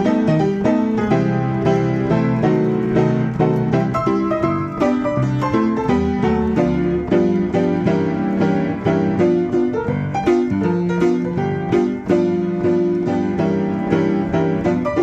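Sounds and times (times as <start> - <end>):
player piano playing chords: 0.0 - 15.0.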